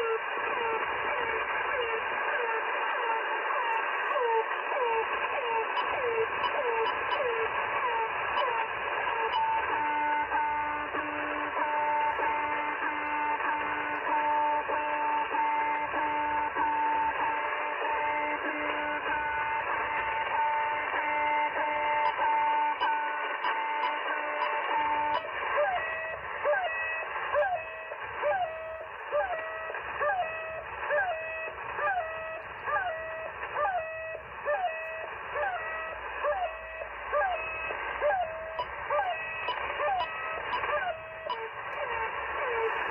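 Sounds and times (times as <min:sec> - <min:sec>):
radio band hiss: 0:00.0 - 0:42.9.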